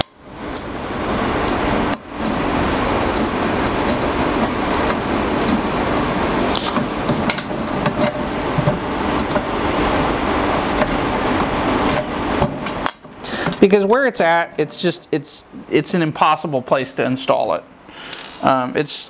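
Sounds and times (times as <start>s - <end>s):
steady rushing noise: 0.2s - 16.5s.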